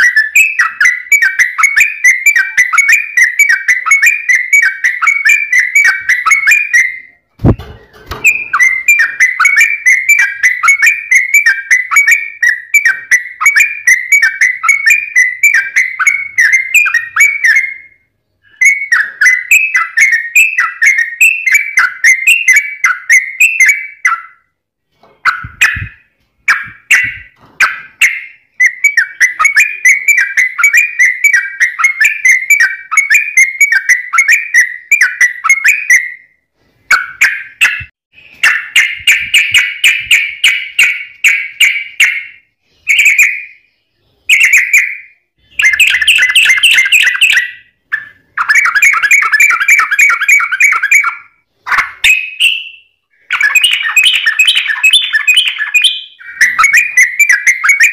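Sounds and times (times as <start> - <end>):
bulbul singing whistled notes: 0.0 - 24.5, 25.3 - 51.4, 52.0 - 57.9.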